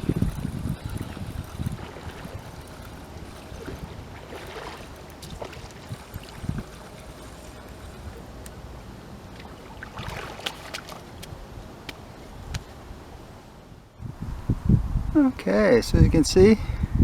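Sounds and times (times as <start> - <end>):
water rushing and lapping: 0.0 - 13.6
wind buffeting microphone: 0.0 - 17.0.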